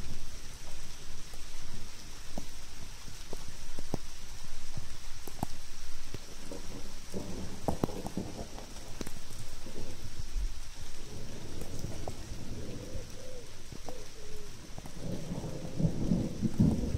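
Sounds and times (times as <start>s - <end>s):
steady rain: 0.0s - 16.9s
raindrops ticking on phone: 0.1s - 16.9s.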